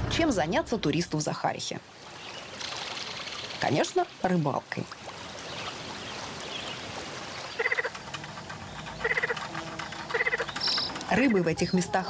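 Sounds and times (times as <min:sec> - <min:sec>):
frogs croaking: 0:02.0 - 0:12.0.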